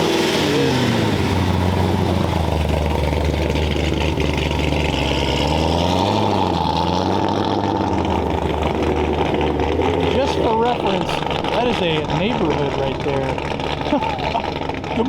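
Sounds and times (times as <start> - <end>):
car engine choppy idle: 0.0 - 15.0.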